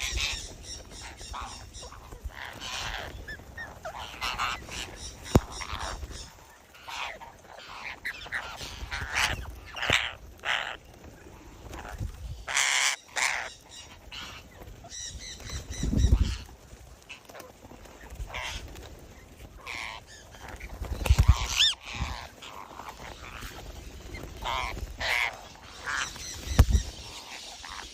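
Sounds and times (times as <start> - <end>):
birds squawking and chirping: 0.0 - 27.9.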